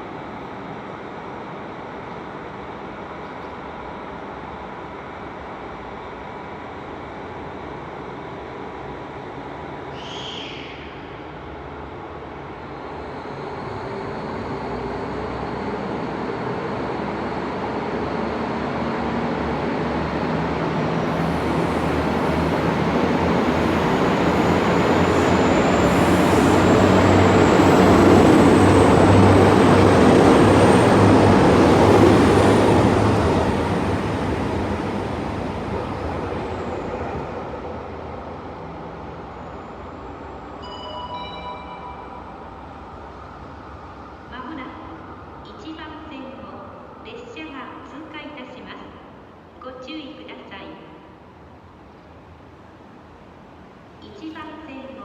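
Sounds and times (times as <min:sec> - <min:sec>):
diesel train engine: 0:00.0 - 0:47.1
rail noise: 0:00.0 - 0:48.2, 0:50.7 - 0:55.0.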